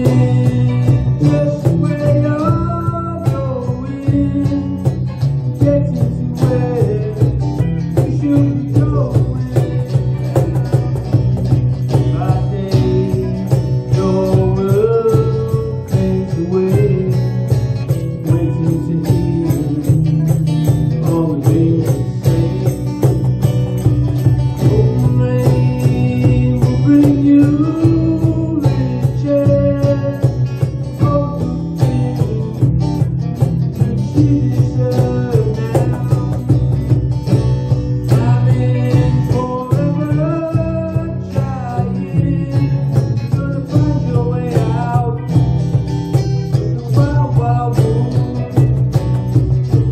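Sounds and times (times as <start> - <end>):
men singing: 0.0 - 4.9, 5.6 - 10.9, 11.9 - 17.3, 18.2 - 23.0, 24.6 - 33.0, 33.7 - 36.8, 38.0 - 45.4, 46.7 - 48.8
cajon beat: 0.0 - 49.9
guitars strumming: 0.0 - 49.9.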